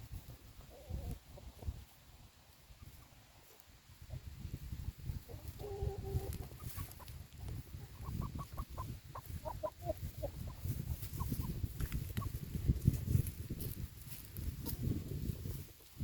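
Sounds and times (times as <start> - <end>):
chickens clucking: 0.1 - 16.0.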